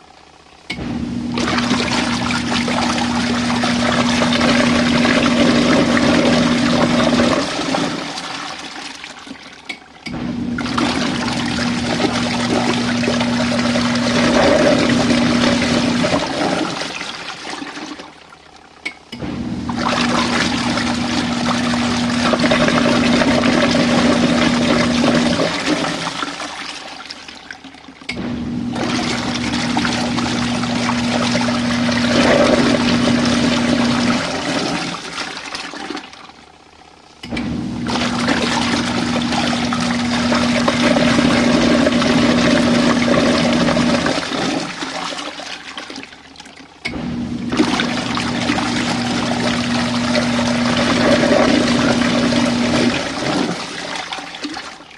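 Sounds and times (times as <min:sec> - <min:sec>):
washing machine churning water: 0:00.0 - 0:54.9
washing machine motor hum: 0:00.0 - 0:54.9.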